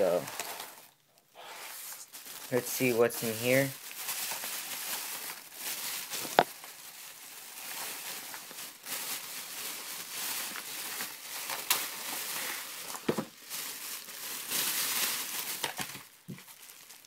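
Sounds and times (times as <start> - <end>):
plastic bag rustling: 0.0 - 17.0.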